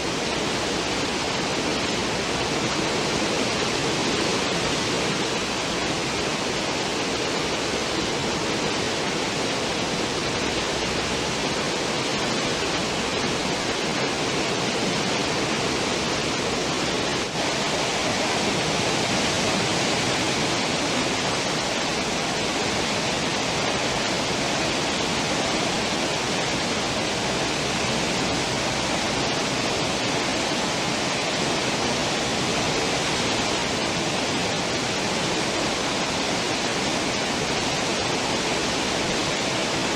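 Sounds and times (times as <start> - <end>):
churning seawater rushing: 0.0 - 39.9.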